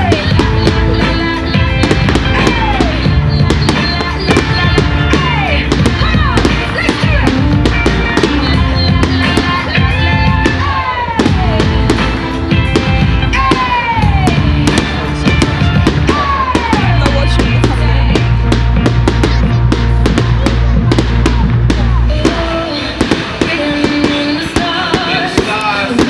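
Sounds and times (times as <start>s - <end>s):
fireworks bangs and crackles: 0.0s - 26.0s
loud music with held notes: 0.0s - 26.0s.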